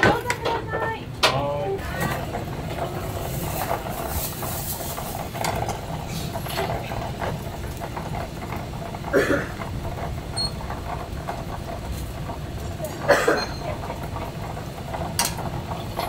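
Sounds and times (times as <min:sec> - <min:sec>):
burners and extraction rumbling: 0:00.0 - 0:16.0
loud clatter: 0:00.0 - 0:16.0.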